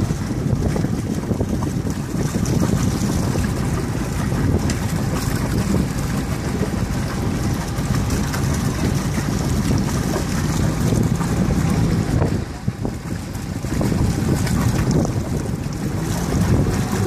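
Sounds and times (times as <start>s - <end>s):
water rushing past a boat: 0.0s - 17.0s
wind buffeting microphone: 0.0s - 17.0s.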